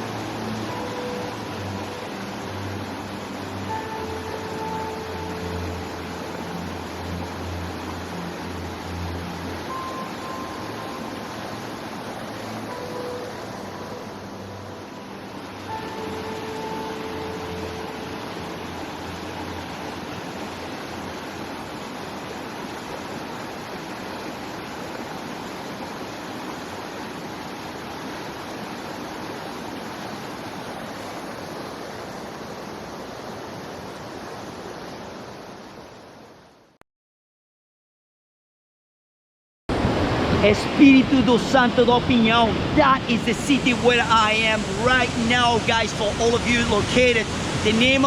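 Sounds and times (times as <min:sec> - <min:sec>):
waterfall roaring: 0:00.0 - 0:36.5, 0:39.7 - 0:48.0.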